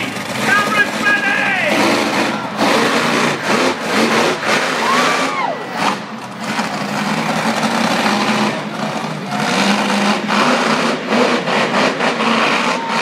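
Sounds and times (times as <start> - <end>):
monster truck engine drone: 0.0 - 13.0.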